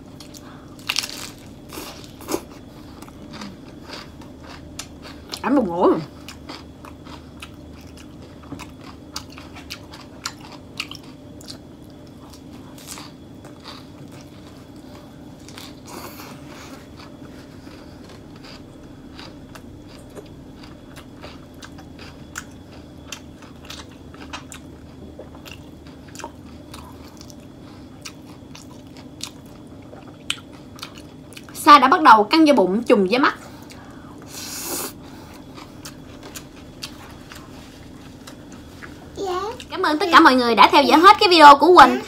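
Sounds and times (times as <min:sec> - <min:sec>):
steady low hum: 0:00.0 - 0:42.0
chewing crisp lettuce: 0:00.1 - 0:31.6, 0:34.6 - 0:39.7.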